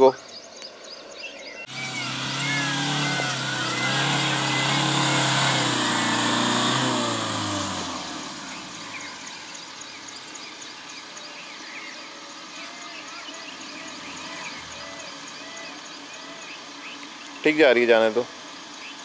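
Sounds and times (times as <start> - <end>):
diesel engine pulling: 1.6 - 19.0.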